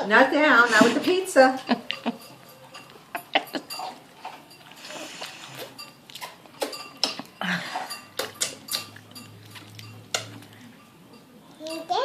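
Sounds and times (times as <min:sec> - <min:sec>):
tableware clinking: 0:00.6 - 0:12.0.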